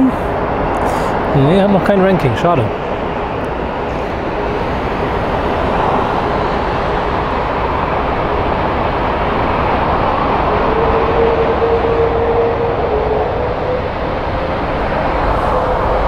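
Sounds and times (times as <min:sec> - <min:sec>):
jet engine roar: 0:00.0 - 0:16.0
steady engine whine: 0:00.0 - 0:16.0.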